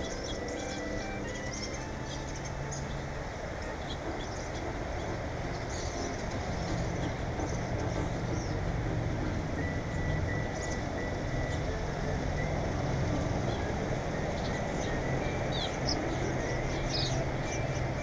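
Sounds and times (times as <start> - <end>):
bird chirps: 0.0 - 8.6, 9.4 - 12.6, 13.2 - 18.0
low rumble of vehicles: 0.0 - 18.0.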